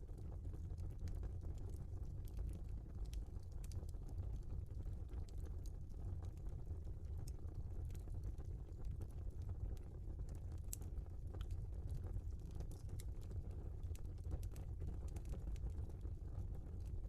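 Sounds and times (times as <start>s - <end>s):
fire flames rumbling: 0.0s - 17.0s
burning logs crackling: 0.1s - 17.0s.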